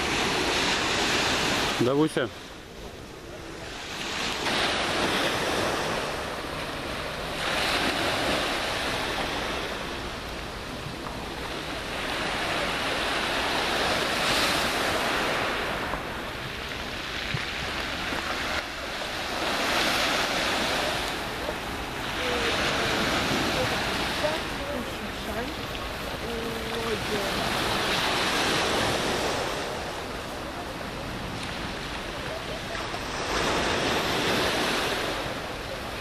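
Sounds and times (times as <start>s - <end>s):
waves washing over pebble beach: 0.0s - 2.4s, 3.5s - 36.0s.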